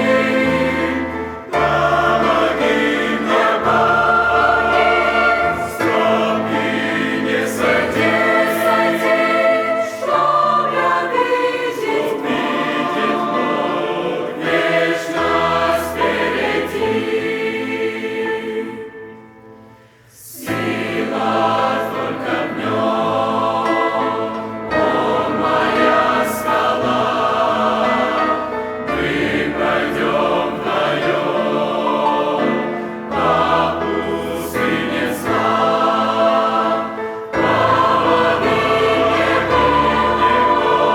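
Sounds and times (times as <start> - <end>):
choir singing a hymn: 0.0 - 40.9.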